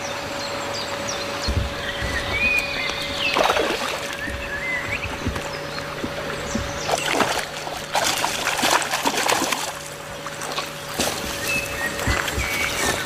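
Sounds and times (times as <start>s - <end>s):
fish splashing in water: 2.3s - 13.0s.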